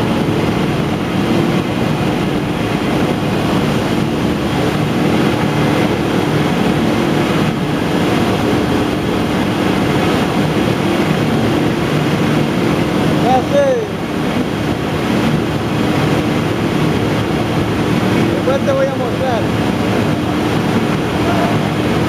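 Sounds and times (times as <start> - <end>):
factory machinery droning: 0.0 - 22.0.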